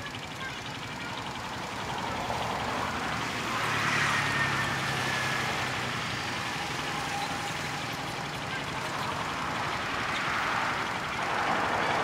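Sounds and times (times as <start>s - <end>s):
motor vehicle passing: 1.5s - 12.0s.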